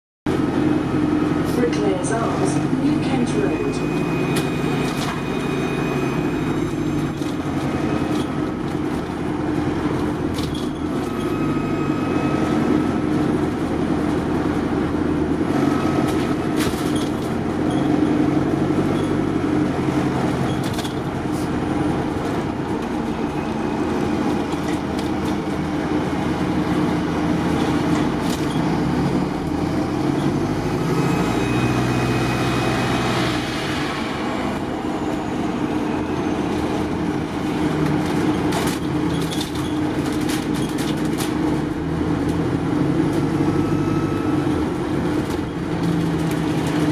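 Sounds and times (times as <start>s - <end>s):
bus engine from inside: 0.3s - 46.9s
road noise: 0.3s - 46.9s.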